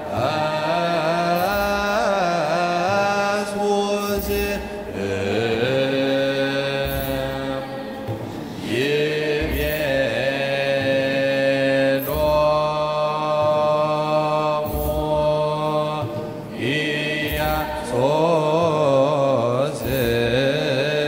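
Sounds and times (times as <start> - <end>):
choir chanting a hymn: 0.0 - 21.0.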